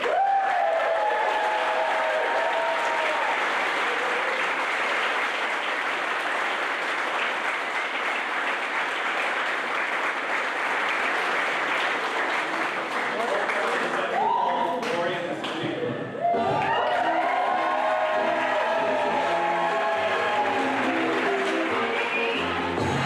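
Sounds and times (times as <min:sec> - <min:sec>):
people cheering: 0:00.0 - 0:08.3, 0:11.0 - 0:15.1, 0:16.0 - 0:23.0
crowd applauding: 0:00.0 - 0:15.6, 0:16.2 - 0:23.0.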